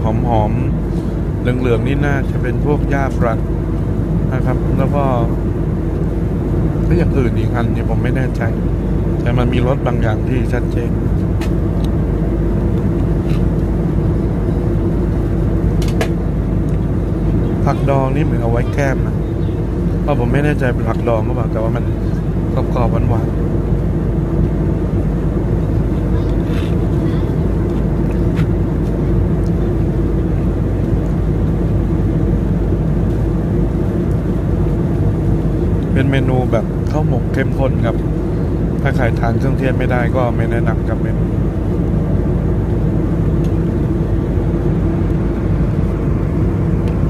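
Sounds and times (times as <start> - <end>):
airliner cabin drone: 0.0 - 47.0.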